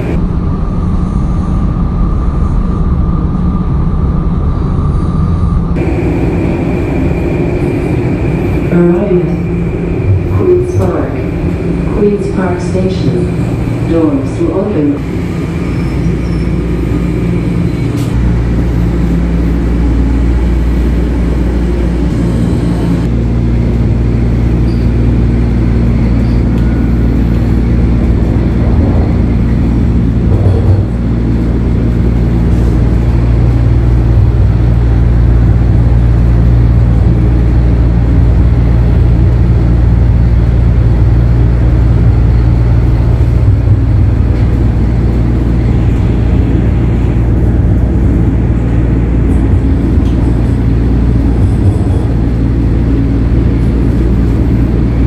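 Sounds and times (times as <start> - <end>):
subway train rumbling: 0.0 - 55.0.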